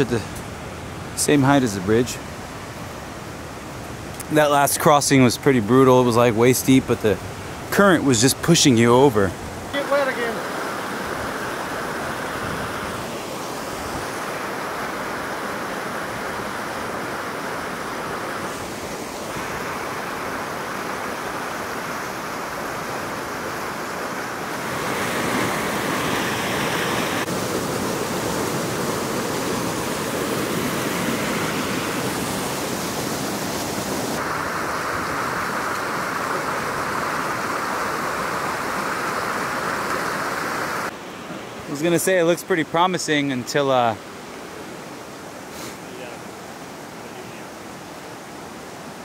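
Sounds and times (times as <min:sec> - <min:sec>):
creek water rushing over boulders: 0:00.0 - 0:49.0.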